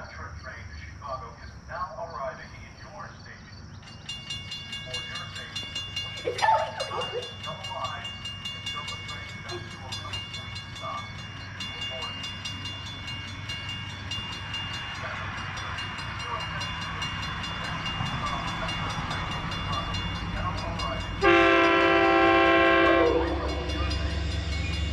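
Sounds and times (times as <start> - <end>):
train rumbling: 0.0 - 24.9
crossing warning bell ringing: 3.6 - 24.9.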